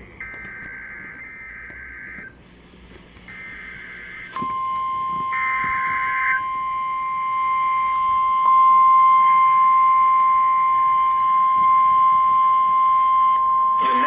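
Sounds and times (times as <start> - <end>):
steady alarm tone: 0.0 - 14.0.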